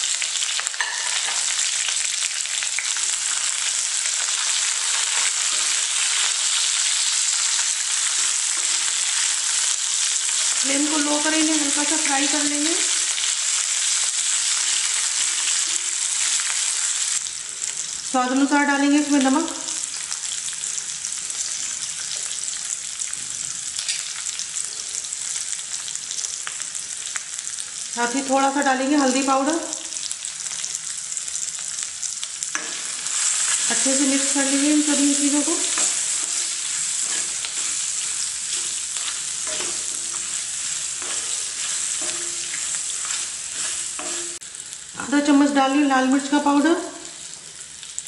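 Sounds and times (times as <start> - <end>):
chillies sizzling in oil: 0.0 - 48.0.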